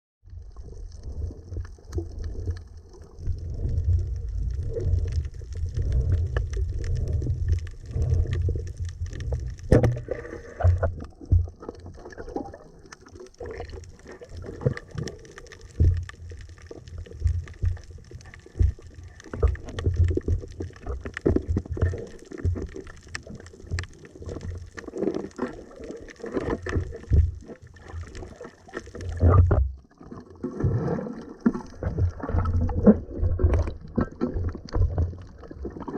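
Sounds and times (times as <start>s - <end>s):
underwater low rumble: 0.2s - 35.9s
underwater clicks and knocks: 1.5s - 35.9s.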